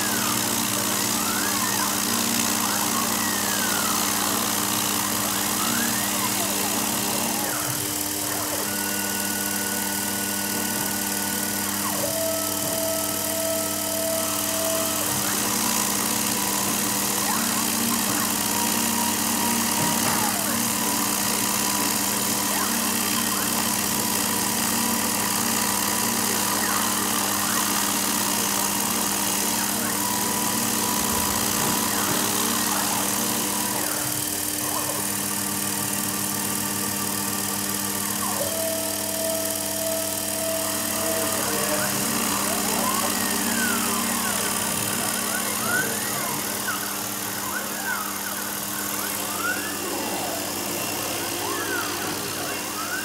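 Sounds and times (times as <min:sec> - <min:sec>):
motor hum: 0:00.0 - 0:53.0
stepper motor whines: 0:00.0 - 0:53.0.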